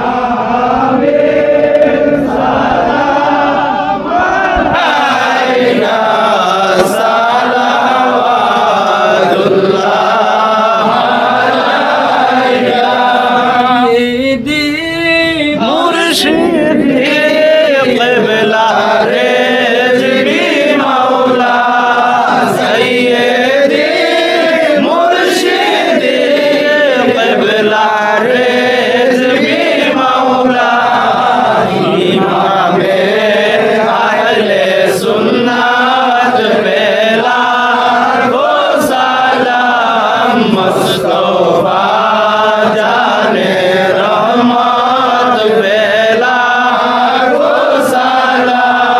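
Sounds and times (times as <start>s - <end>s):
men chanting in unison: 0.0s - 48.9s.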